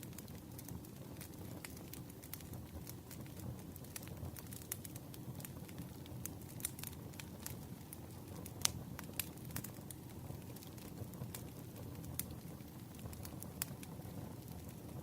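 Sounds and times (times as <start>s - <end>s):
fire rumbling: 0.0s - 15.0s.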